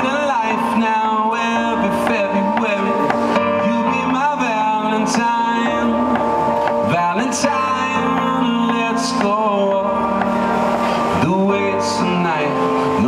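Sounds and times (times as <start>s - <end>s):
electric keyboard chords: 0.0s - 13.0s
man singing: 0.0s - 13.0s.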